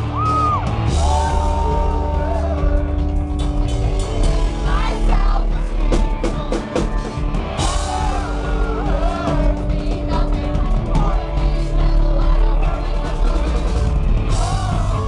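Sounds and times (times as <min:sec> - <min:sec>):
rock band playing: 0:00.0 - 0:15.0
singer singing into microphone: 0:01.0 - 0:03.5, 0:04.2 - 0:15.0.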